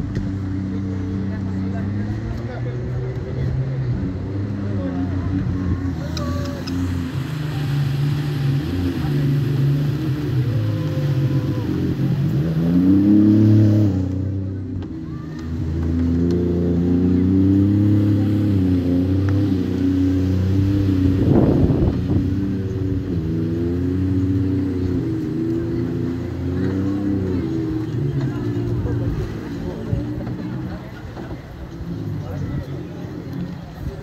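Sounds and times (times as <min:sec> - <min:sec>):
jet ski engines revving: 0:00.0 - 0:34.0
rush of noise: 0:00.0 - 0:34.0.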